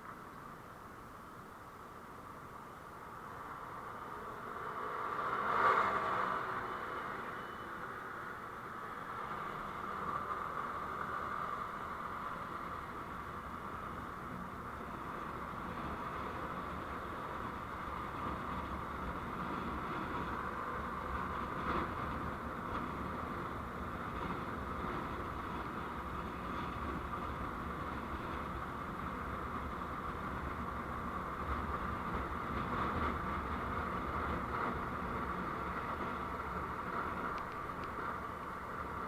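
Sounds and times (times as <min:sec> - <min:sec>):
moving road vehicle: 0:00.0 - 0:39.0.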